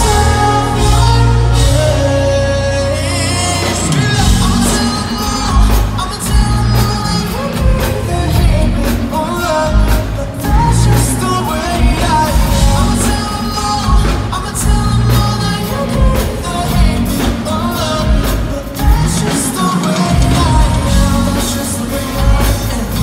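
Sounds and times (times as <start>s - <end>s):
band with drums playing: 0.0s - 23.0s
man singing pop song: 0.0s - 23.0s.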